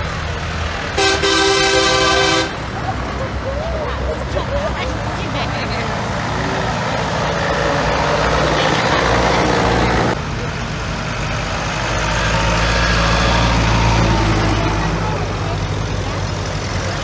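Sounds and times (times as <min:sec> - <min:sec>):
tractor engines driving past: 0:00.0 - 0:17.0.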